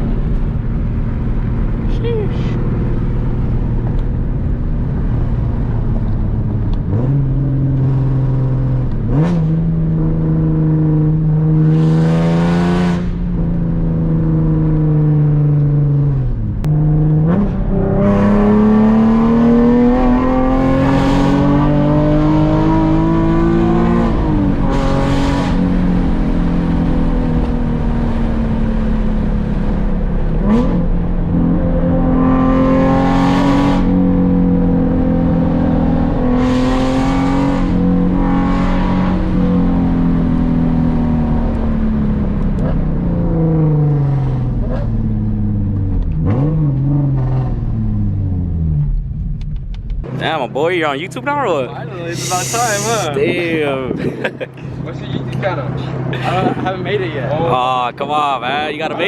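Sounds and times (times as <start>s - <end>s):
car engine accelerating and shifting: 0.0s - 50.5s.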